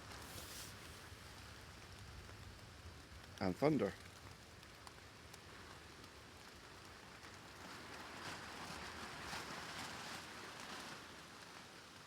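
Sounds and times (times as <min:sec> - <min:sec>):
rain on plastic sheeting: 0:00.0 - 0:12.0
wind: 0:00.0 - 0:12.0.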